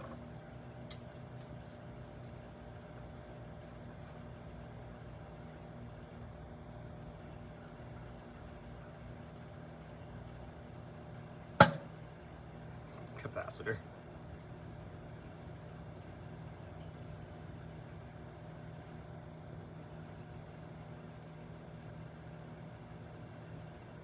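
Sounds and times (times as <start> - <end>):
microwave oven humming: 0.0 - 24.0.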